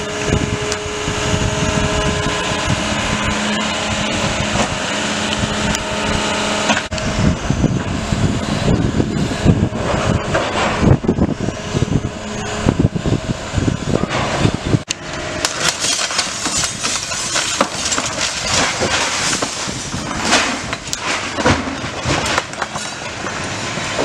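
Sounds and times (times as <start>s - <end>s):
diesel excavator engine running: 0.0s - 24.0s.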